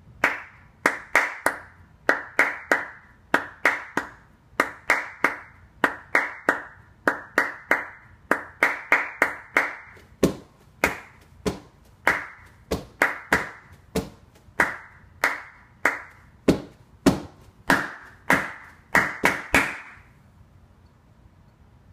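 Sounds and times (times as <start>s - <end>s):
hand claps in syncopated rhythm: 0.2s - 20.1s.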